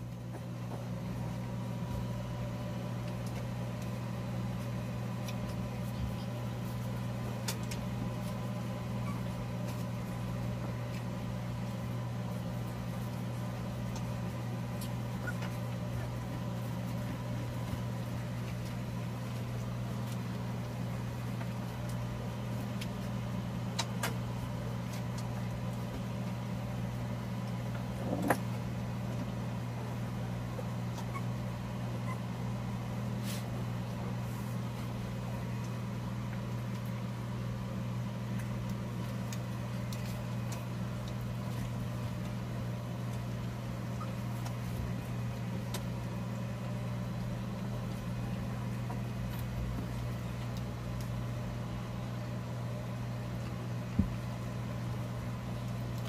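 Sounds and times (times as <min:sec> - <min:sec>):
electric fan motor humming: 0:00.0 - 0:56.0.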